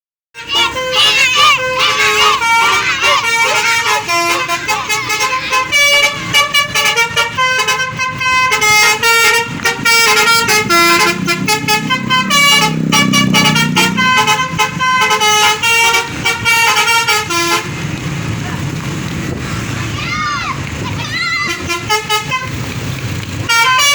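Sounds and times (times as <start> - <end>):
bus horn playing a melody: 0.4 - 17.9, 21.4 - 22.7, 23.4 - 23.9.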